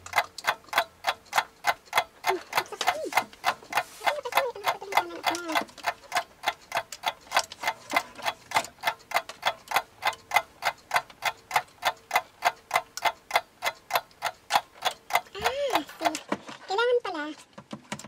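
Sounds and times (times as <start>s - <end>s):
fan heater humming and ticking: 0.0s - 18.0s.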